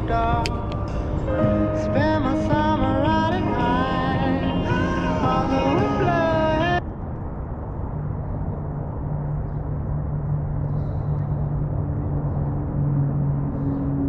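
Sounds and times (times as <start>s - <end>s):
higher hum: 0.0s - 14.0s
road rumble: 0.0s - 14.0s
steady low hum: 0.0s - 14.0s
wind on microphone: 0.0s - 14.0s.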